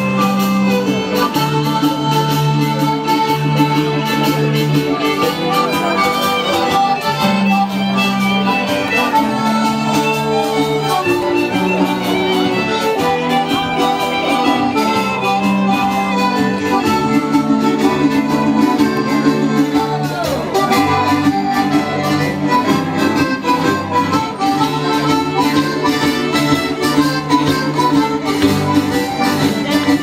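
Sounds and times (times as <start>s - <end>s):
accordion band playing dance tune: 0.0s - 30.0s.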